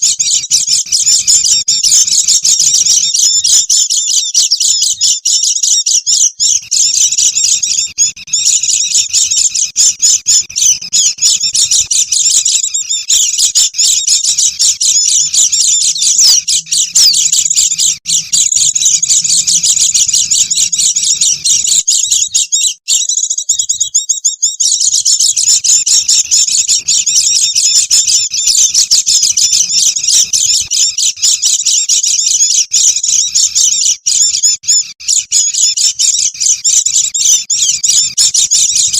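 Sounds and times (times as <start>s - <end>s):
flock of birds chattering: 0.0s - 38.9s.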